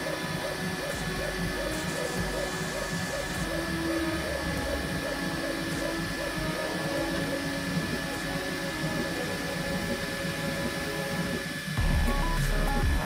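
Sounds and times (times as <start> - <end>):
steady high tone: 0.0 - 13.0.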